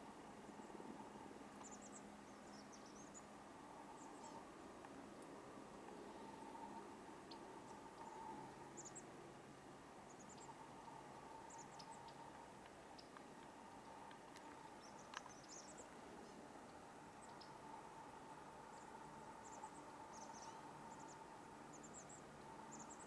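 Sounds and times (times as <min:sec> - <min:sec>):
small songbirds chipping: 0:00.0 - 0:23.0.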